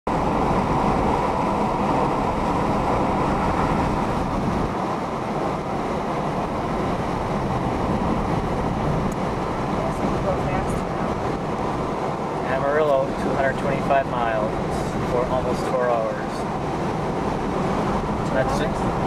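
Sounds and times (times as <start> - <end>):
road and wind noise in car: 0.1 - 19.0.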